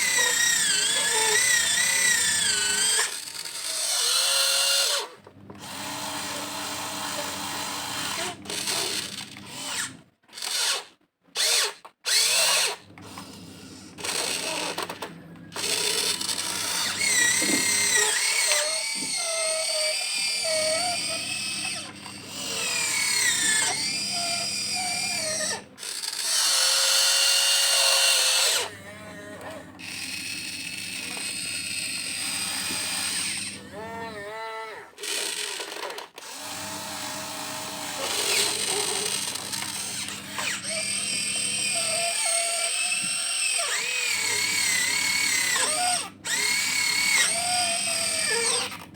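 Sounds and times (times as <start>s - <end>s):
electric motors whining: 0.0s - 48.9s.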